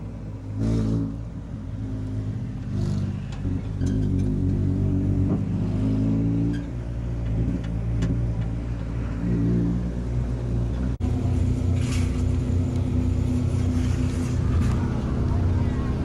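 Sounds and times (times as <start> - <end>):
race car engine under load: 0.0 - 16.0.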